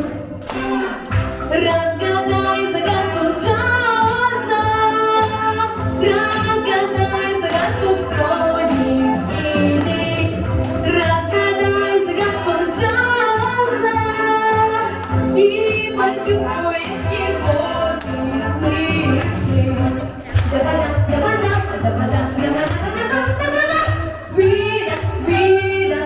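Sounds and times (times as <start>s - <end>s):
instrumental backing with bass line: 0.0s - 26.0s
woman singing jazz: 0.0s - 26.0s.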